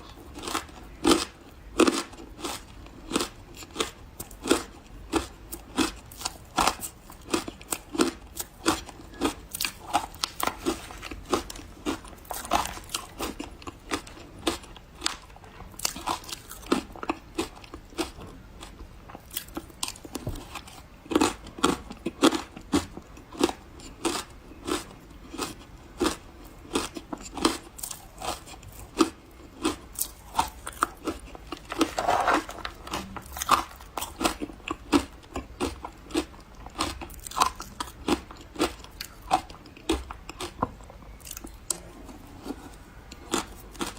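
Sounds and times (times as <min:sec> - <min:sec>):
chewing crunchy ice: 0:00.0 - 0:43.9.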